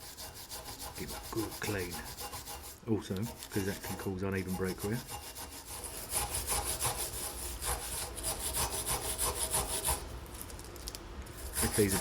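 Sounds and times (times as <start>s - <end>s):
brush scrubbing metal: 0.0s - 10.0s, 11.3s - 12.0s.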